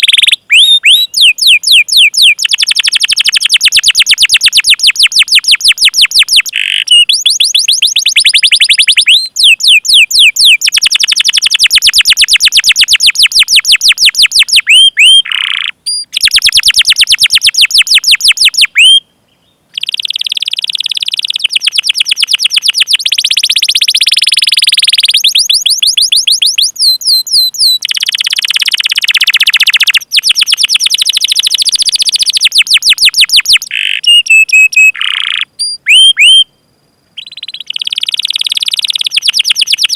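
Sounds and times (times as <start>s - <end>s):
canary singing trills: 0.0s - 36.6s, 37.2s - 39.9s.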